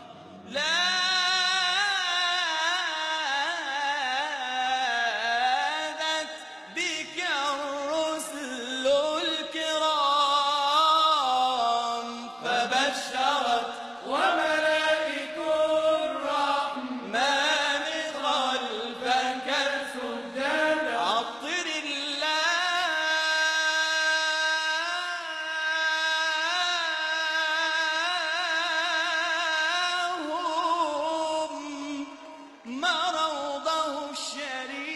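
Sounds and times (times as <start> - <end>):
man singing devotional song: 0.0 - 34.9.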